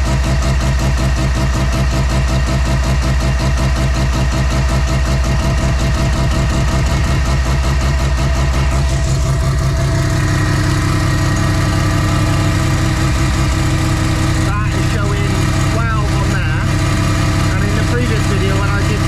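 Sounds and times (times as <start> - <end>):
rotary engine idling: 0.0 - 19.0.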